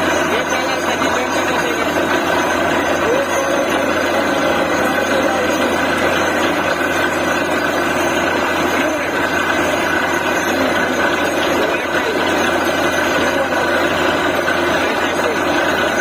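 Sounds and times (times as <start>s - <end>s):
drilling rig drone: 0.0s - 16.0s
faint steady whine: 0.0s - 16.0s.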